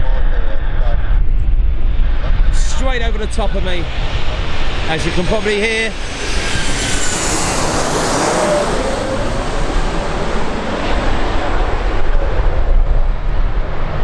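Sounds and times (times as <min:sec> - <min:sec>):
wind rumbling on microphone: 0:00.0 - 0:14.0
jet airliner passing: 0:00.2 - 0:14.0.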